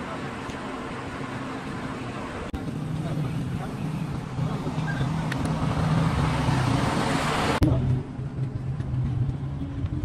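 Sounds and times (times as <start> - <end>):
diesel engine running: 1.5 - 10.0.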